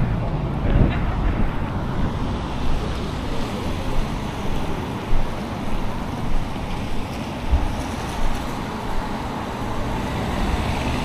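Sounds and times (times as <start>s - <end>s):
traffic hissing on wet roads: 0.0s - 11.0s
wind rumbling on microphone: 0.0s - 11.0s.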